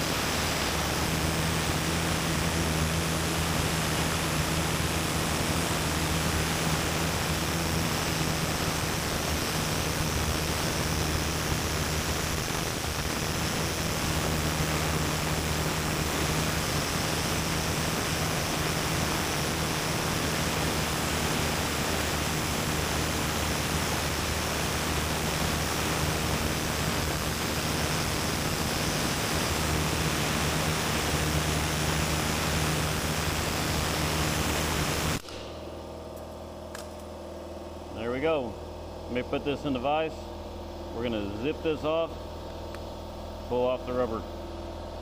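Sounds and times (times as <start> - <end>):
pneumatic needle scaler running: 0.0 - 37.1.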